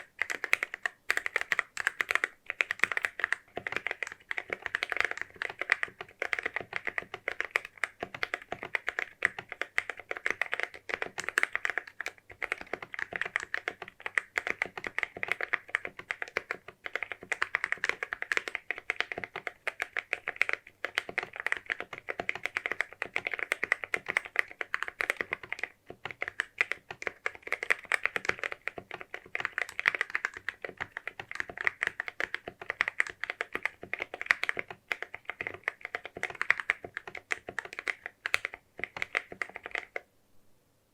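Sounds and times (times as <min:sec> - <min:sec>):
mechanical keyboard typing: 0:00.0 - 0:40.1.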